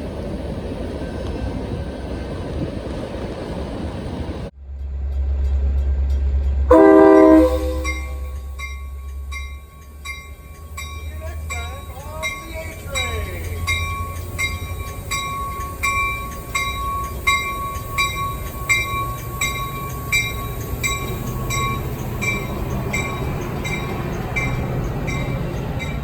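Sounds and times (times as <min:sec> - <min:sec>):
railroad warning bell ringing: 0:04.7 - 0:26.0.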